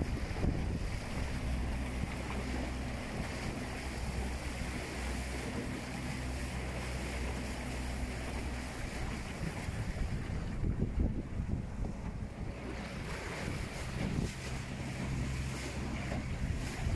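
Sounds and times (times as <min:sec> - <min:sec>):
electric outboard motor hum: 0:00.0 - 0:16.9
water rushing and splashing: 0:00.0 - 0:16.9
wind on microphone: 0:00.0 - 0:16.9.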